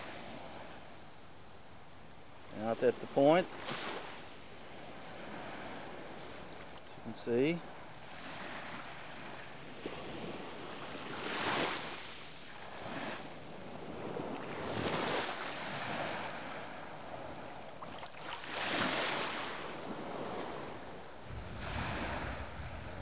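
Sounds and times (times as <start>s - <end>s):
waves washing onto sandy beach: 0.0s - 1.1s, 2.3s - 23.0s.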